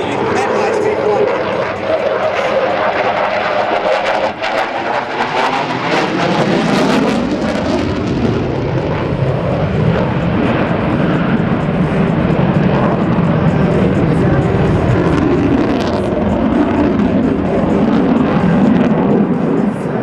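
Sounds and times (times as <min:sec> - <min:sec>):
loud jet engine noise: 0:00.0 - 0:20.0.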